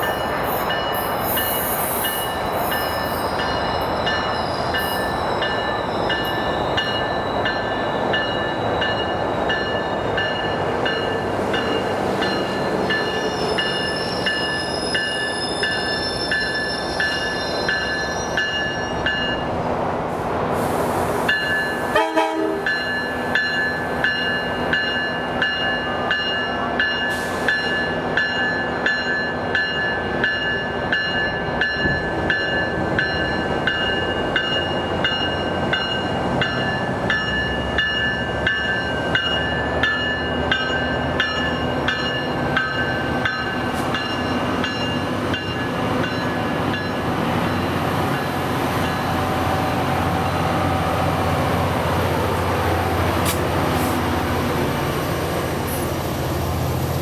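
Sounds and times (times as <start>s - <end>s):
crossing bell ringing: 0.0s - 19.6s, 21.3s - 48.2s
train low rumble: 0.0s - 57.0s.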